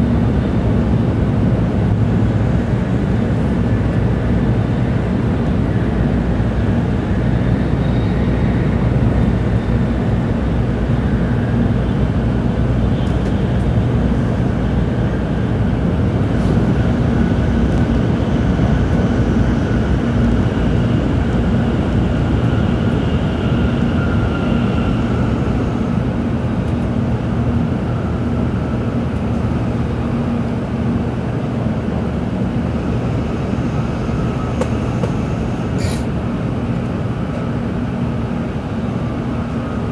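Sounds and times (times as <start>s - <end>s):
train running: 0.0s - 39.9s.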